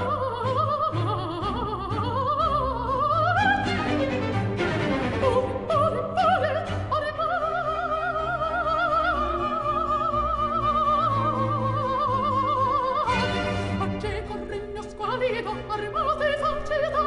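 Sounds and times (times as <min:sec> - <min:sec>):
string orchestra: 0:00.0 - 0:17.0.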